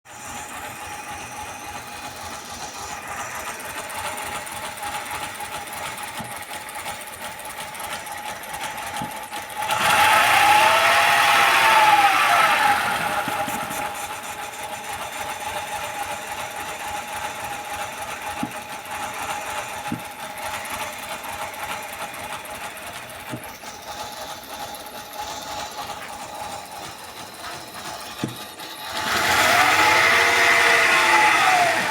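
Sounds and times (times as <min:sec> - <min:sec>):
car engine idling roughly and revving: 0:00.1 - 0:31.9.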